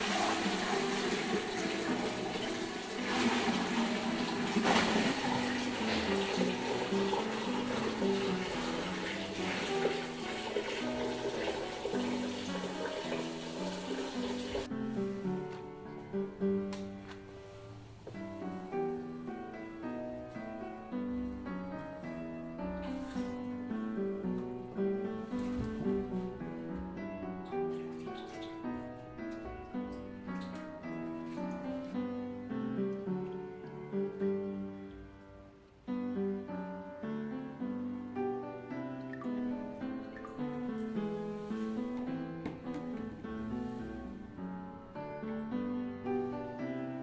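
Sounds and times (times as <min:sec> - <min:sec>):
running water splashing: 0:00.0 - 0:32.0, 0:39.2 - 0:46.4.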